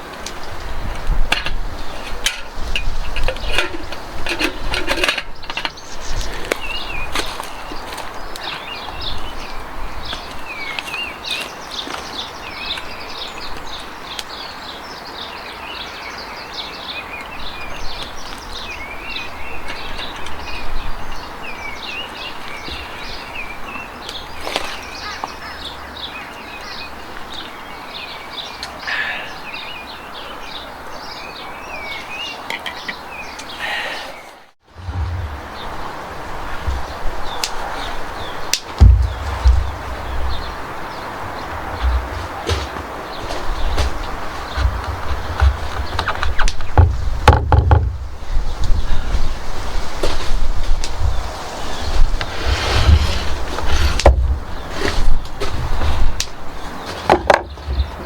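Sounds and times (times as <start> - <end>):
birds singing: 0.0 - 58.0
outdoor background hiss: 0.0 - 58.0.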